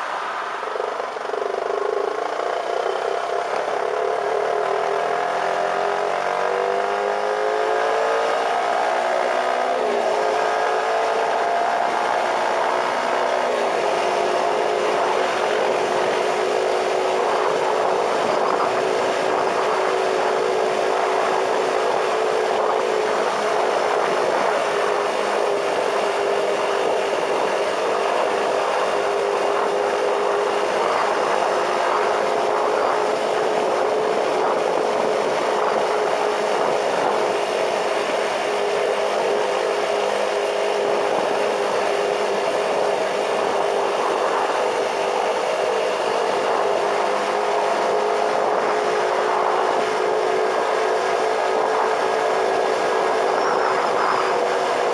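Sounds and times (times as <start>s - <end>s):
motorcycle engine: 0.0s - 54.9s
wind and road noise: 0.0s - 54.9s.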